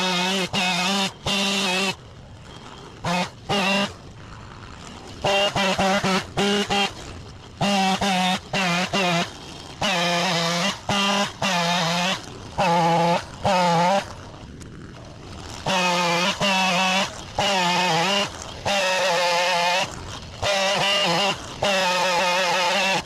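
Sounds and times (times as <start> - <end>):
chainsaw revving: 0.0 - 4.1, 4.8 - 23.0.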